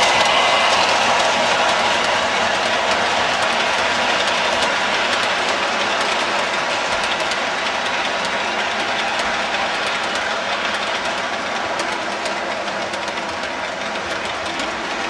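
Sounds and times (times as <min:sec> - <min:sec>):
model train rolling rumble: 0:00.0 - 0:15.0
wheels clicking over rail joints: 0:00.0 - 0:15.0.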